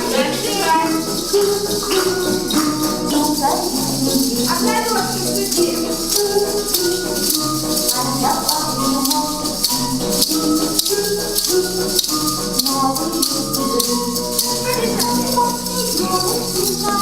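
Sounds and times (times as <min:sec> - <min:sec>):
dance music: 0:00.0 - 0:17.0
toy hand rattles shaking: 0:00.0 - 0:17.0.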